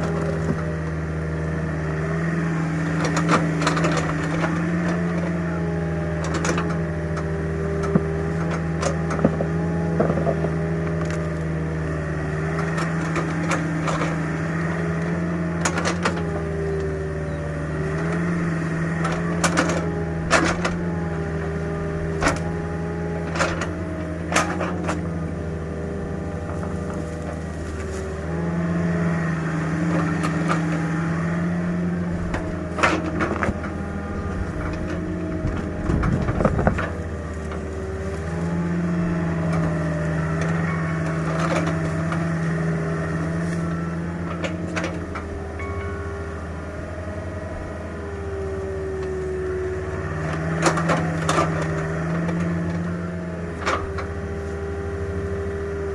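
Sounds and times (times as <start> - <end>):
mini excavator running: 0.0 - 55.9
digging cracks and knocks: 2.7 - 16.9, 17.8 - 45.3, 47.9 - 55.8.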